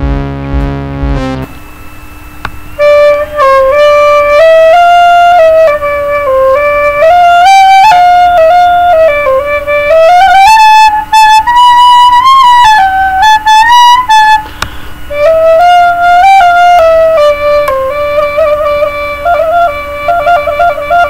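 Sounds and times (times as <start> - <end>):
recorder playing slow melody: 0.0 - 21.0.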